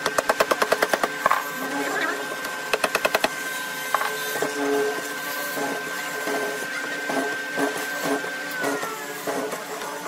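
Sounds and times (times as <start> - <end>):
drill motor whine: 1.4 - 10.0.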